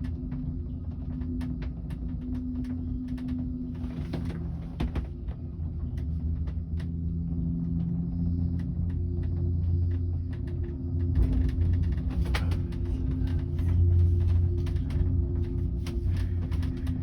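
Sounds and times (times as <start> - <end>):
gondola cabin humming: 0.0 - 17.0
light clicks and rattles: 0.0 - 17.0.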